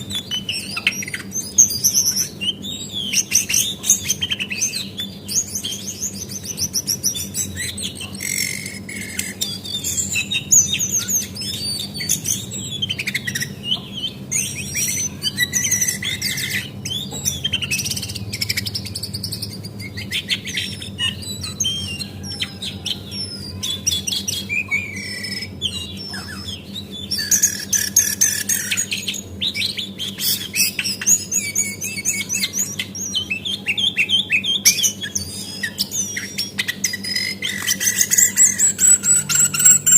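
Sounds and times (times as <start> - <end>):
low steady hum: 0.0 - 39.9
songbird chirping and trilling: 0.0 - 39.9.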